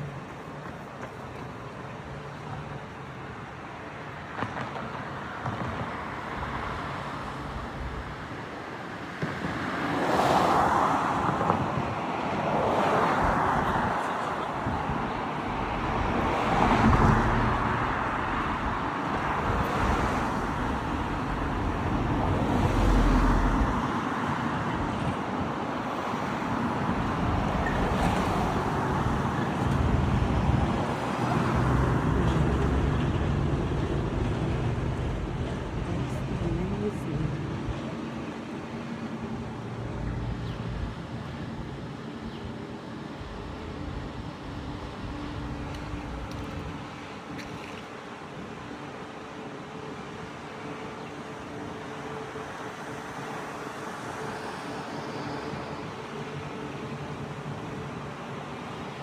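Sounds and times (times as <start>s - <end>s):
traffic background noise: 0.0s - 59.0s
vehicles passing: 0.0s - 59.0s.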